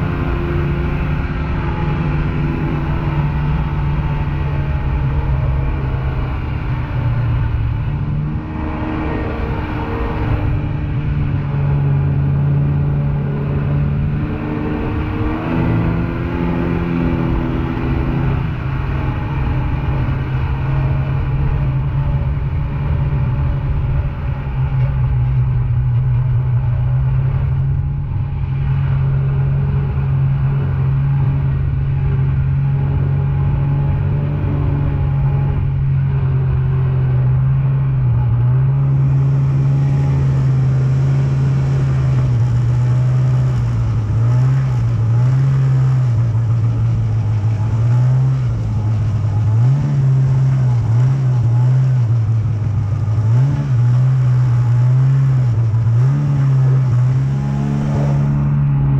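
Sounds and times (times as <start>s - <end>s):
snowmobile engine running: 0.0s - 58.9s.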